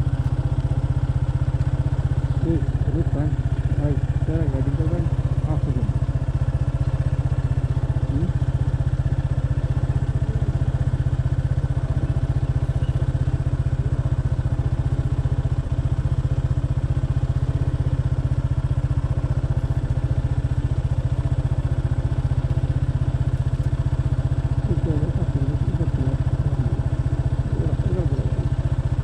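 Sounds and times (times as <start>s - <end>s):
motorcycle engine running steadily: 0.0s - 29.0s.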